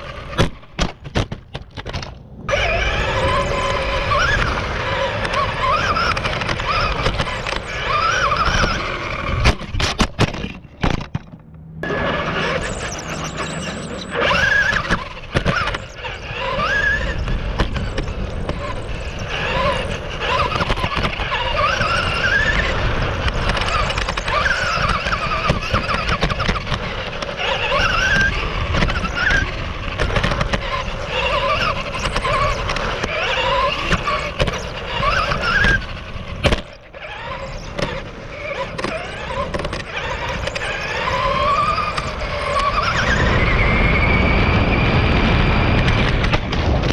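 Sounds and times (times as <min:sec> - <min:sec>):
rc car motor whining: 0:00.0 - 0:10.8, 0:11.8 - 0:46.9
tyre and chassis rushing noise: 0:00.0 - 0:46.9.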